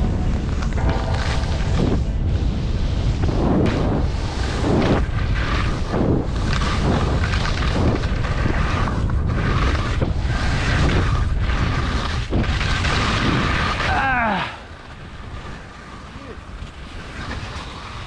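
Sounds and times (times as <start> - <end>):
wind rushing over microphone: 0.0 - 17.9
skis scraping on snow: 0.0 - 18.0.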